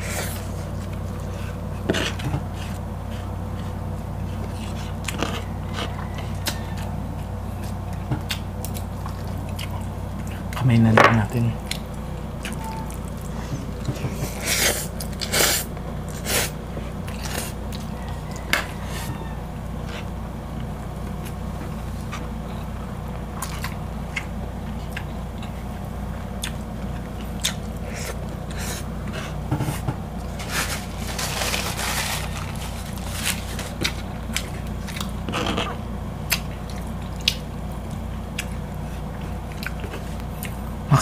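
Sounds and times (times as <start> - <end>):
chewing with crisp crunches: 0.0 - 41.0
steady low hum: 0.0 - 41.0.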